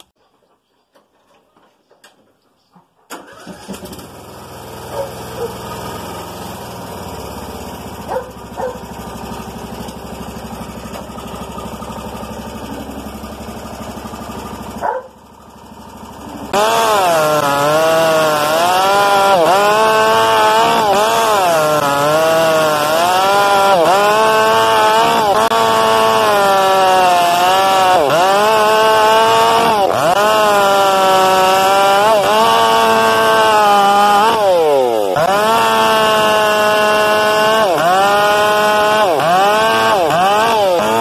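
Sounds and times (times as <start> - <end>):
chainsaw cutting into log: 3.1 - 41.0
chainsaw idling and revving: 3.2 - 41.0.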